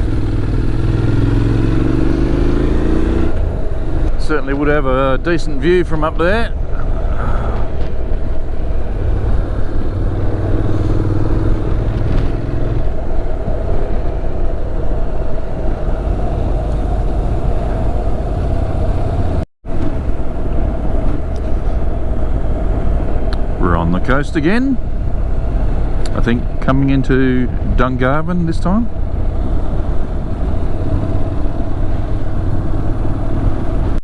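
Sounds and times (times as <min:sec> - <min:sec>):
motorcycle engine: 0:00.0 - 0:34.0
wind rushing on microphone: 0:00.0 - 0:34.0.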